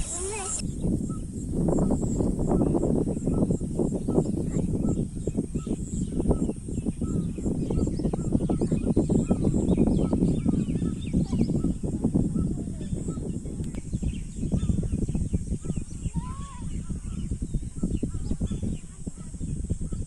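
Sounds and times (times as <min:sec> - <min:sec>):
small birds chirping: 0:00.0 - 0:20.0
wind buffeting microphone: 0:00.0 - 0:20.0.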